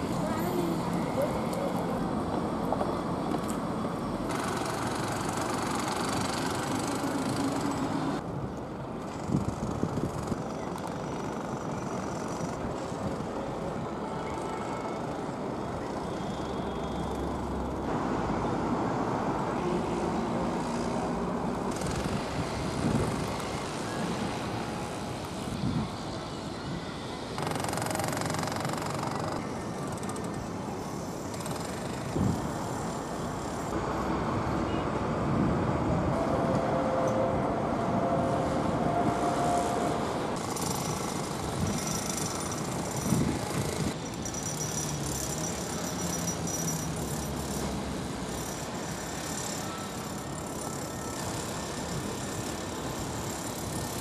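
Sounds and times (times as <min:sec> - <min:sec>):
city traffic hiss and rumble: 0:00.0 - 0:54.0.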